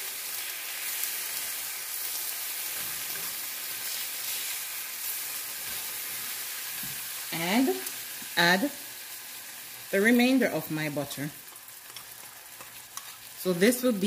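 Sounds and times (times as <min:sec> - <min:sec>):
lemon slices sizzling in a frying pan: 0:00.0 - 0:14.0.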